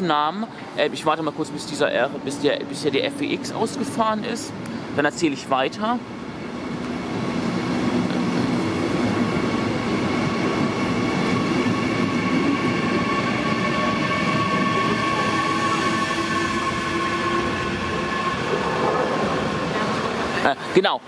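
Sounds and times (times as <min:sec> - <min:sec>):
train wheels rumbling on rails: 0:00.0 - 0:20.7
train whining tone: 0:01.2 - 0:04.9, 0:06.0 - 0:20.5.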